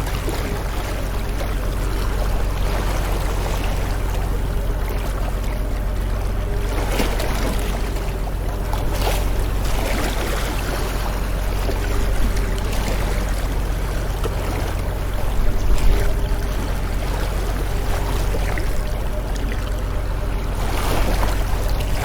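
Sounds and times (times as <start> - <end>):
low rumble: 0.0 - 22.0
sea waves washing and splashing: 0.0 - 22.0.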